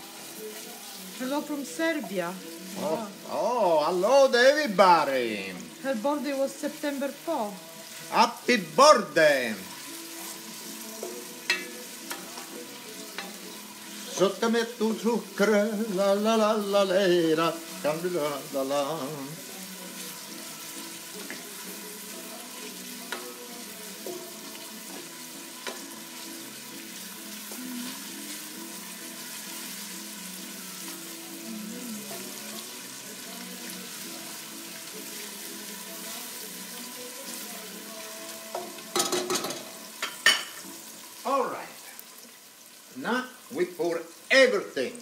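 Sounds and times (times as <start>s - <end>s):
onion sizzling in a pot: 0.0s - 45.0s.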